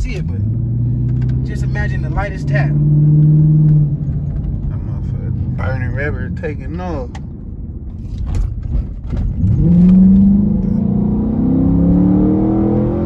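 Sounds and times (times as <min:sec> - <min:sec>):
car engine revving up: 0:00.0 - 0:07.0, 0:09.3 - 0:13.0.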